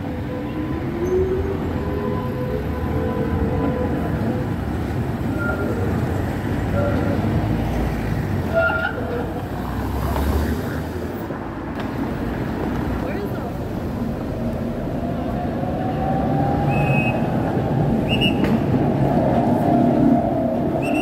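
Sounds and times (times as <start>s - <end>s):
city traffic: 0.0s - 21.0s
tram wheels rumbling on rails: 0.0s - 21.0s.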